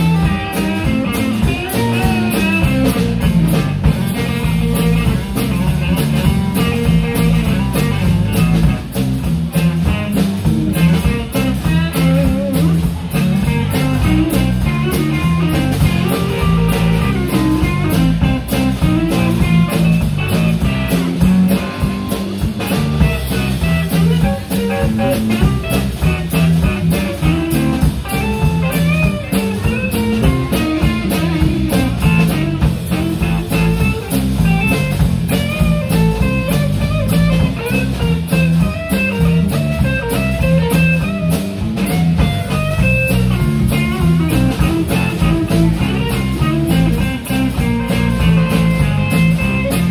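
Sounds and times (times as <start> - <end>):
bass guitar: 0.0 - 49.9
drum kit beat: 0.0 - 49.9
electric guitar lead: 0.0 - 49.9.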